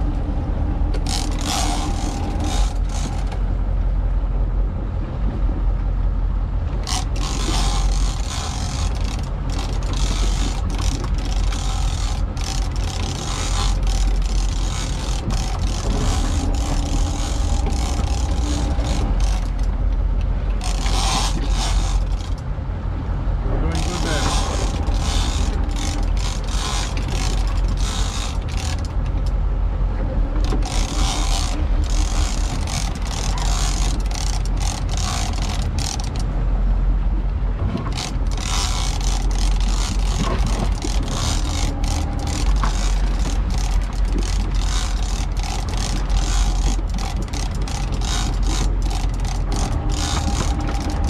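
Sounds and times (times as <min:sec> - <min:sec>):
boat engine rumble: 0:00.0 - 0:51.0
fishing reel ratchet clicks: 0:01.0 - 0:03.3, 0:06.8 - 0:19.7, 0:20.5 - 0:22.4, 0:23.8 - 0:29.3, 0:30.4 - 0:36.2, 0:37.9 - 0:51.0.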